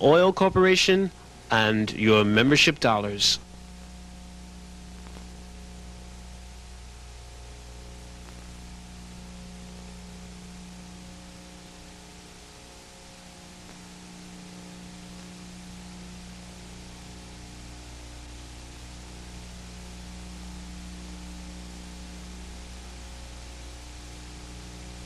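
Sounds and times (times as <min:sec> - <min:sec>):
low mains hum: 0:00.0 - 0:25.0
tape hiss: 0:00.0 - 0:25.0.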